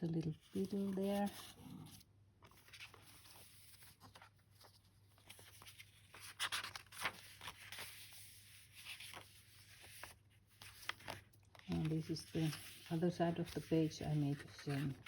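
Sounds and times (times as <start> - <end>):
paper crinkling: 0.0 - 15.0
paper rustling: 0.0 - 15.0.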